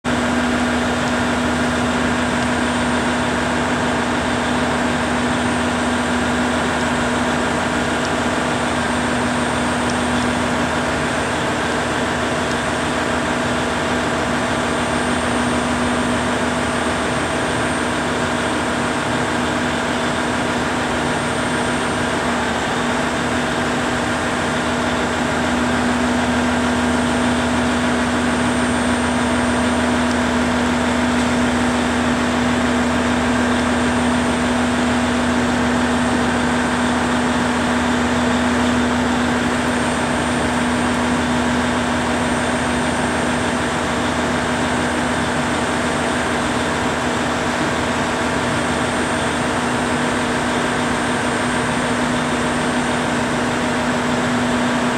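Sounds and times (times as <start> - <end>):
diesel engine idling: 0.1 - 54.9.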